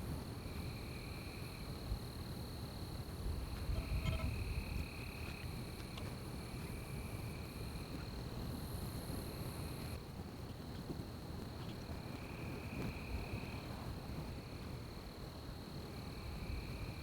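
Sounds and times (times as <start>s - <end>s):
lower insect chorus: 0.0s - 17.0s
insects trilling: 0.4s - 17.0s.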